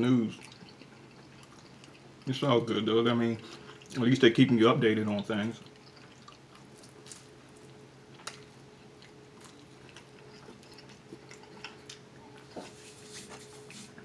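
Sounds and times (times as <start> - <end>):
chewing with soft crunches: 0.0 - 14.0.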